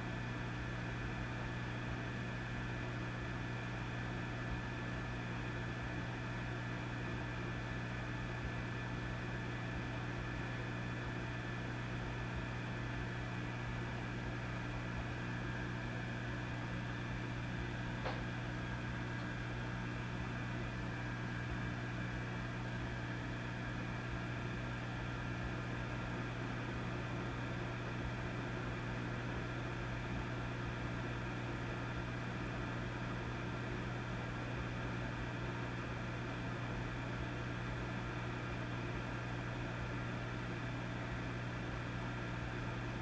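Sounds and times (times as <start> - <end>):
amplifier mains hum: 0.0 - 43.0.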